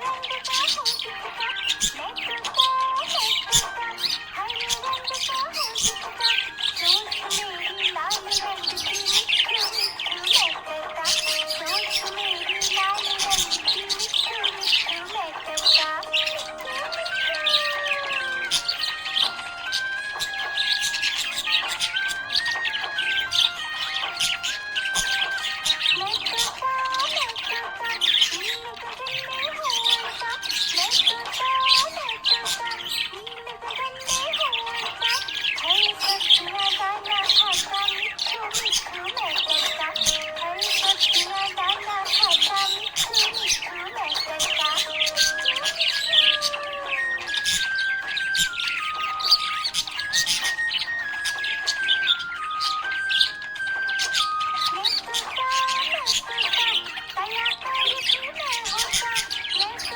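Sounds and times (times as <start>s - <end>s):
budgerigar chirping and warbling: 0.0s - 59.9s.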